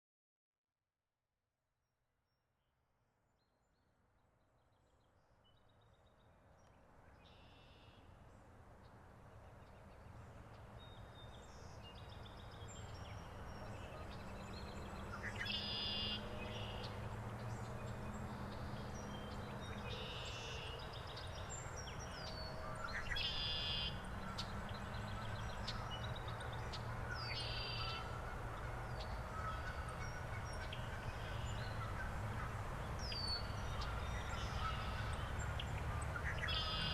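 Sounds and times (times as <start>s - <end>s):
songbirds chirping and trilling: 4.8s - 36.9s.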